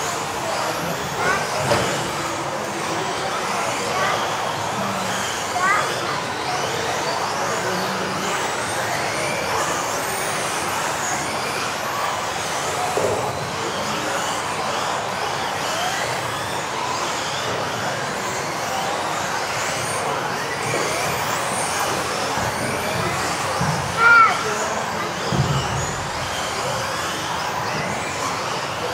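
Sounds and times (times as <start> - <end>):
rc car motors whining: 0.0 - 28.9.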